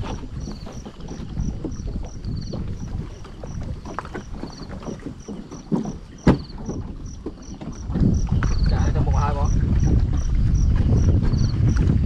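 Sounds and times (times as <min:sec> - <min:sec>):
small knocks and splashes: 0:00.0 - 0:12.0
wind rumbling on microphone: 0:00.0 - 0:12.0.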